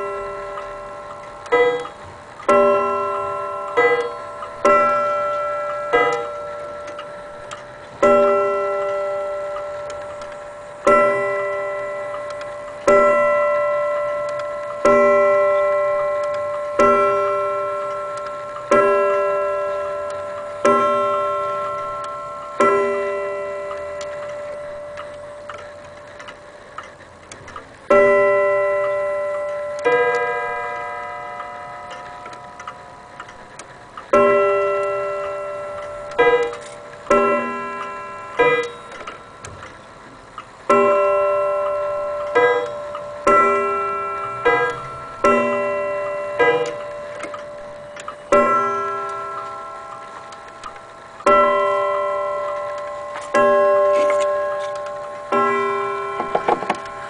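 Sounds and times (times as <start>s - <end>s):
clock striking on gong: 0.0s - 57.0s.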